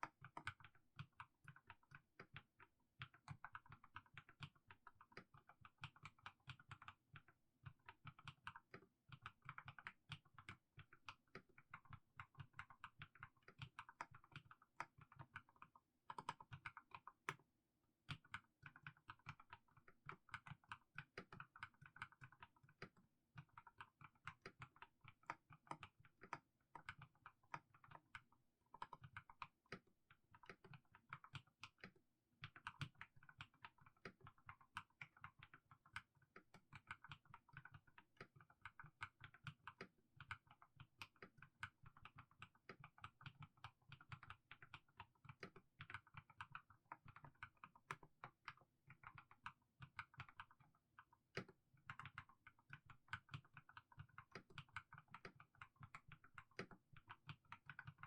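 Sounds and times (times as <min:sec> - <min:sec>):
soft mechanical keyboard typing: 0:00.0 - 0:58.0.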